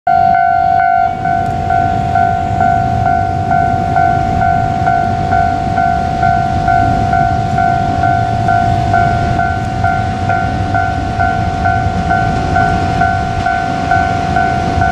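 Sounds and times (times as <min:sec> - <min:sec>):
level crossing warning bell: 0:00.1 - 0:14.9.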